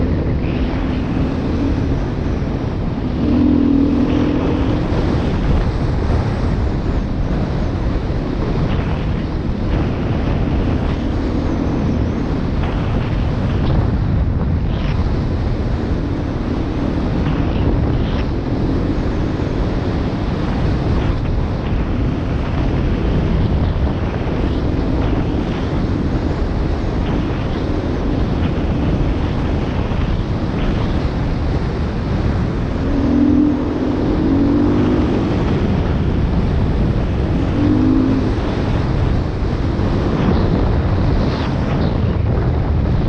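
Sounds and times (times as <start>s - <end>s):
motorcycle engine: 0.0s - 14.0s, 14.7s - 42.0s
wind buffeting microphone: 0.0s - 43.0s.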